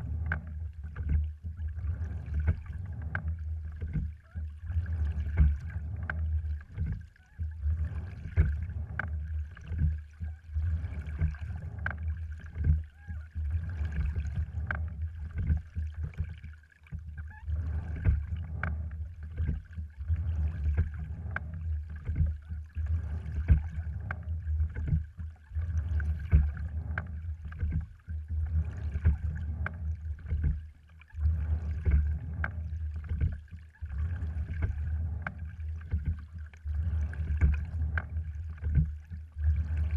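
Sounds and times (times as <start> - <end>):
oars knocking and clicking: 0.0 - 39.9
water rumbling along a hull: 0.0 - 39.9.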